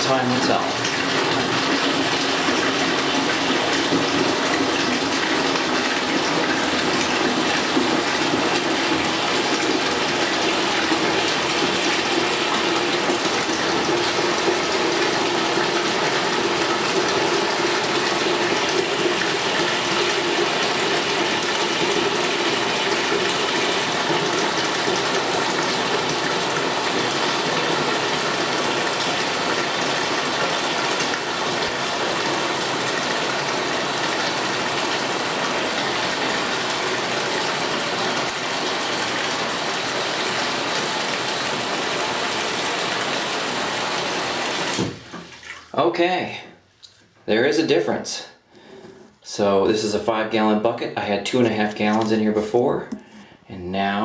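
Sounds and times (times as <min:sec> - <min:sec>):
water running into a bucket: 0:00.0 - 0:47.0, 0:50.4 - 0:53.8.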